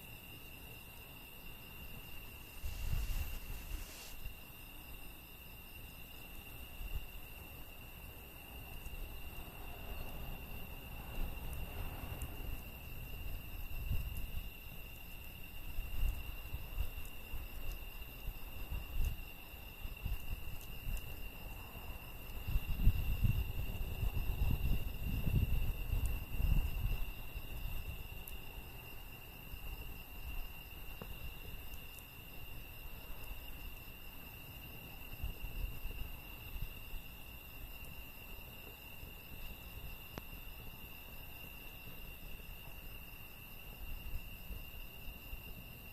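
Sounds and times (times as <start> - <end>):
campfire crackling: 0.0 - 45.9
crickets trilling: 0.0 - 45.9.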